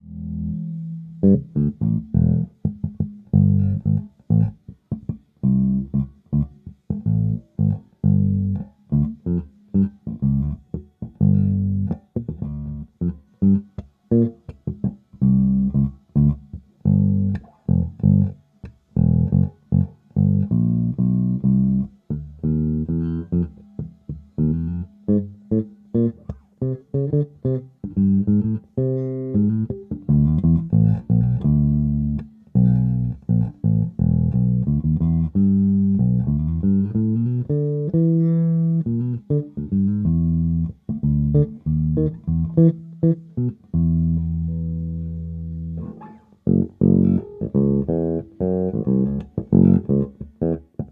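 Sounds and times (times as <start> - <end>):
electric bass plucked notes: 0.0 - 50.9.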